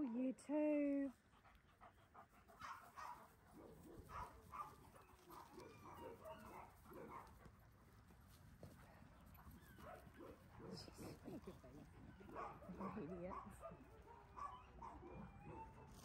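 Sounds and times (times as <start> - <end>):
dogs play-fighting on grass: 0.0 - 16.0.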